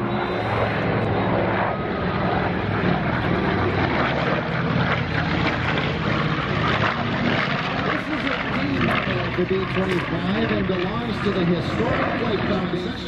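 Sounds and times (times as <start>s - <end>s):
propeller bomber engines droning: 0.0s - 13.0s.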